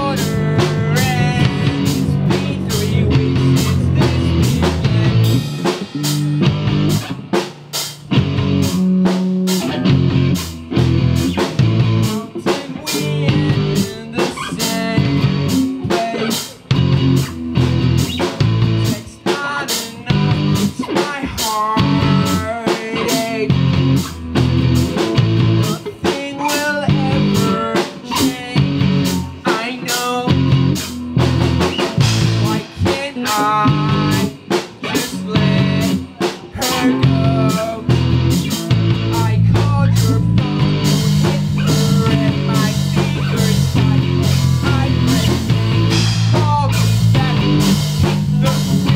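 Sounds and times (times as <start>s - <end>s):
lead guitar melody: 0.0s - 19.2s, 19.9s - 26.0s, 30.2s - 48.9s
bass guitar: 0.0s - 48.9s
drum kit beat: 0.0s - 48.9s
electric guitars: 0.0s - 48.9s.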